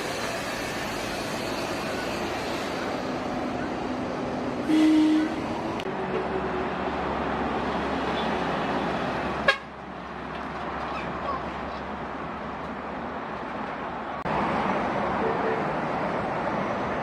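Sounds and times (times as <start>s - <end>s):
heavy trucks passing: 0.0s - 17.0s.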